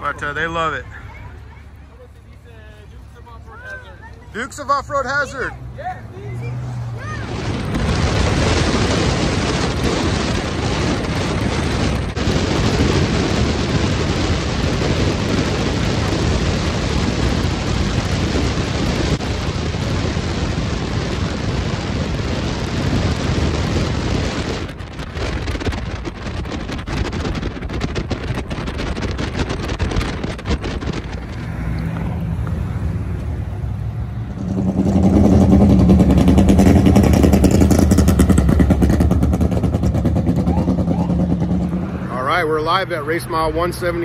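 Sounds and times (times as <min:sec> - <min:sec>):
wind rushing over microphone: 0:04.0 - 0:44.0.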